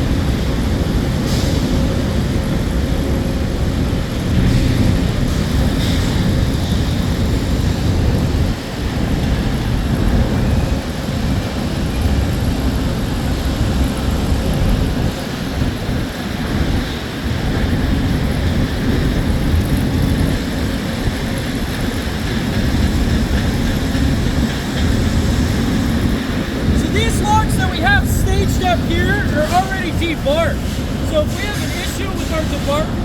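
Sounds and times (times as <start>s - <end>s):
sawmill machinery rumbling: 0.0s - 33.0s.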